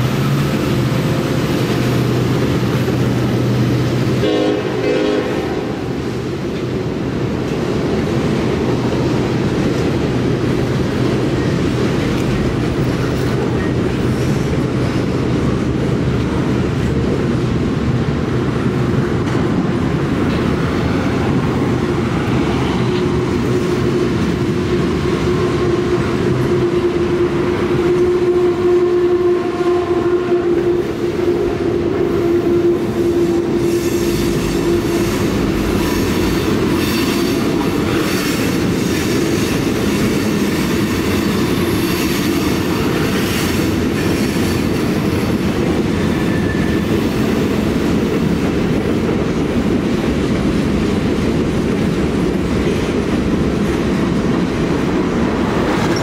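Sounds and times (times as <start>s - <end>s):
train wheels rumbling and clattering: 0.0s - 56.0s.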